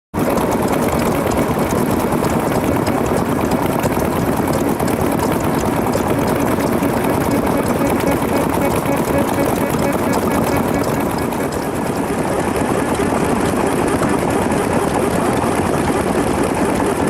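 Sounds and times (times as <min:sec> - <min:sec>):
stationary engines running: 0:00.2 - 0:17.0.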